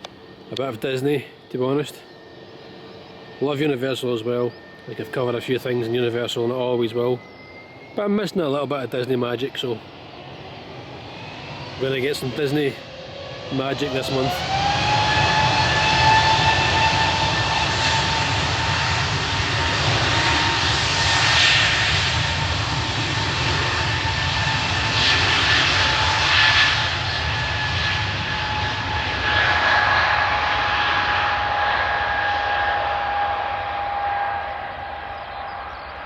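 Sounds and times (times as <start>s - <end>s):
jet engines at takeoff power: 0.0s - 36.0s.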